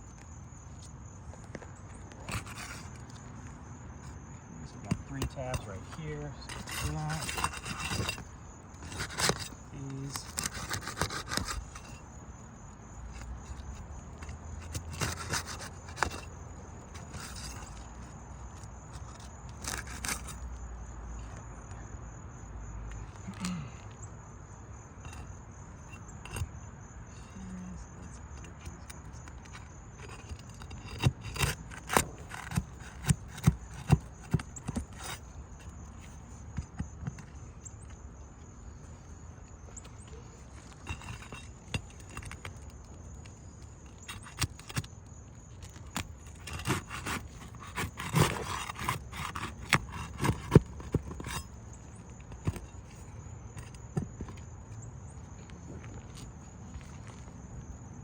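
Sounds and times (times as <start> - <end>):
pry bar scraping shingle: 0.0 - 21.5, 22.9 - 57.7.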